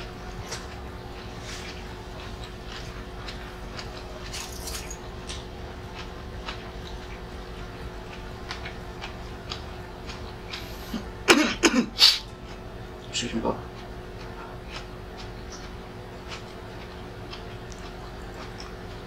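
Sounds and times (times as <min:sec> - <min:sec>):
mouth chewing food: 0:00.6 - 0:11.1, 0:13.7 - 0:19.0.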